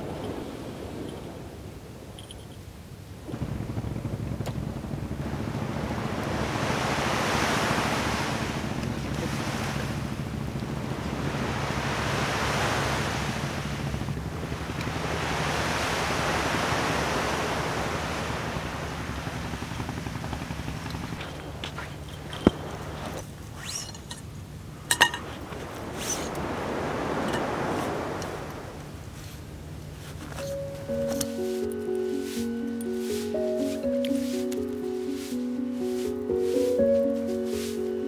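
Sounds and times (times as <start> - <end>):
surf breaking on a beach: 0.0 - 2.4, 3.1 - 38.0.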